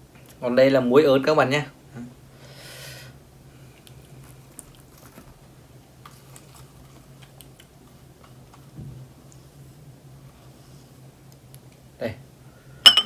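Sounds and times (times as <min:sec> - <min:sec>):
low steady hum: 0:00.0 - 0:13.0
soft hiss: 0:00.0 - 0:13.0.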